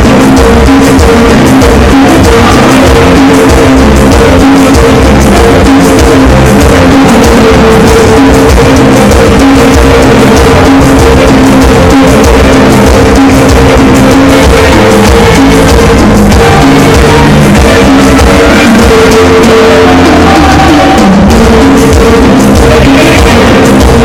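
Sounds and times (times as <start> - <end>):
loud amplified dance music: 0.0 - 24.0.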